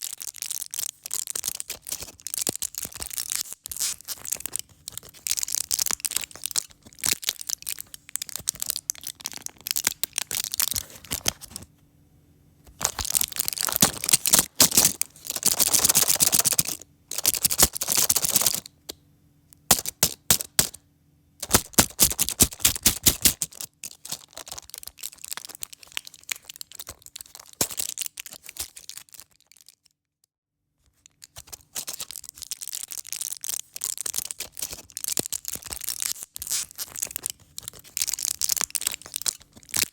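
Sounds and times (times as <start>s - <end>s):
pill packaging crinkling: 0.0s - 11.6s, 12.8s - 18.9s, 19.7s - 20.8s, 21.4s - 29.9s, 30.9s - 39.9s.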